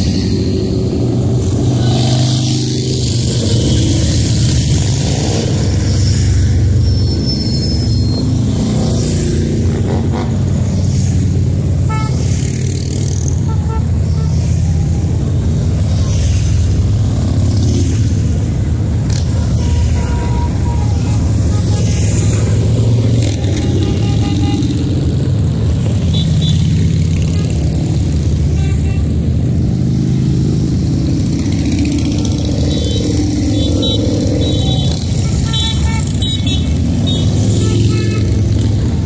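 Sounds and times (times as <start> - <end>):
motorcycle engines revving: 0.0 - 39.0
motorcycle engines rumbling: 0.0 - 39.0.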